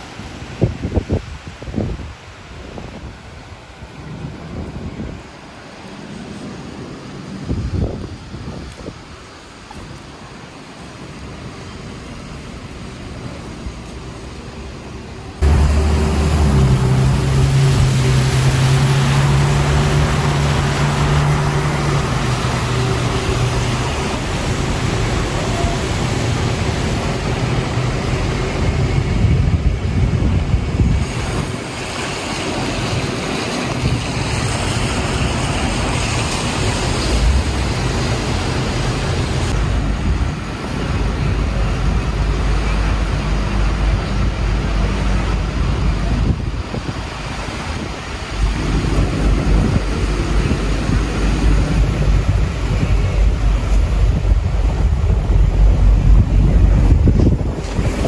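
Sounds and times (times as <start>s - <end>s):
street traffic: 3.7s - 58.0s
low engine hum: 10.7s - 58.0s.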